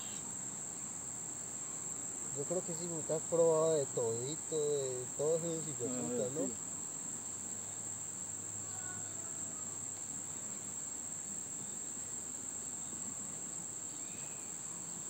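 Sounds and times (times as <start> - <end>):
insect chorus shrill trill: 0.0 - 15.0.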